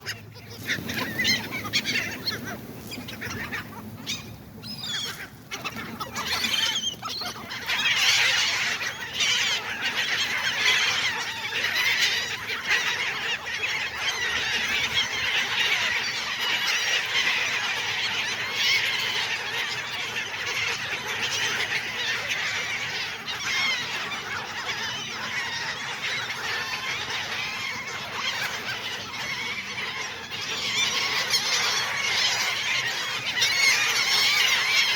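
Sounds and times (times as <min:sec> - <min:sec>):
gulls calling: 0:00.0 - 0:34.9.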